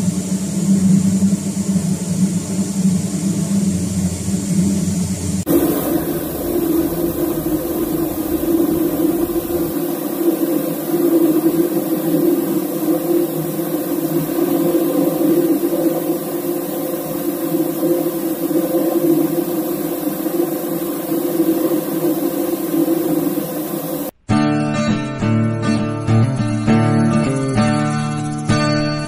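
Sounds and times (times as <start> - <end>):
ship machinery drone: 0.0 - 24.1.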